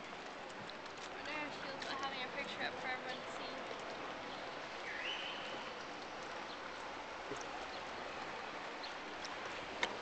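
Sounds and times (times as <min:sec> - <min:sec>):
water and wind hiss: 0:00.0 - 0:10.0.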